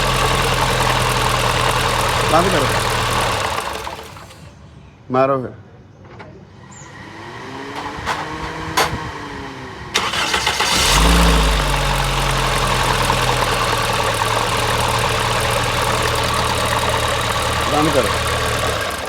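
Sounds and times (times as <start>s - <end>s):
car engine running: 0.0s - 4.5s, 7.1s - 19.0s
engine cranking on starter: 0.0s - 4.6s, 7.0s - 19.0s.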